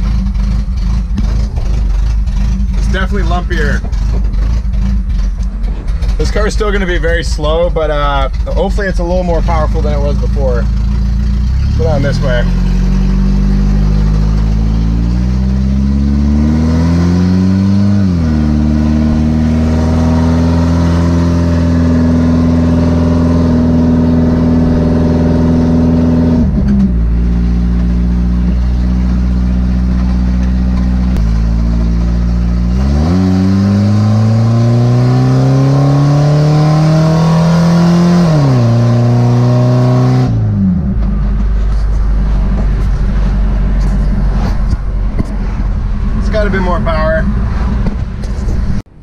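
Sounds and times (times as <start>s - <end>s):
car engine heard from cabin: 0.0s - 49.0s.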